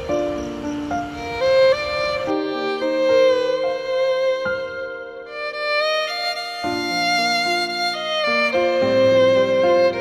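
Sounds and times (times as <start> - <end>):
string-like instrumental music: 0.0 - 10.0.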